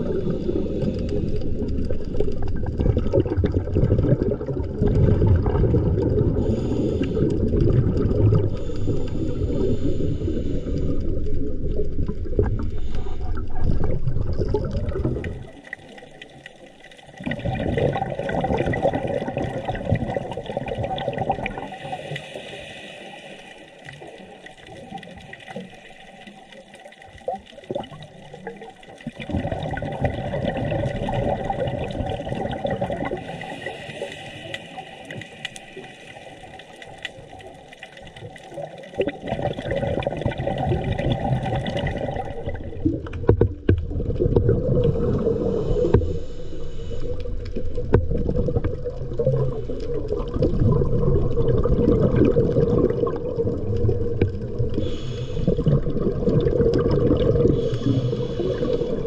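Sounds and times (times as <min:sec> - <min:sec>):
water rushing underwater: 0:00.0 - 0:59.0.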